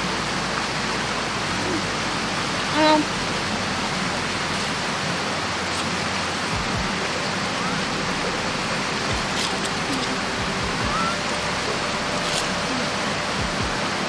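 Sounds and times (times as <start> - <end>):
water rushing: 0.0 - 14.0.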